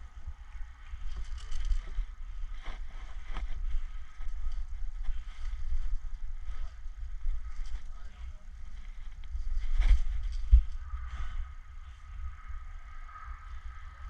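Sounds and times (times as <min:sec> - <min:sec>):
wind buffeting on microphone: 0:00.0 - 0:14.0.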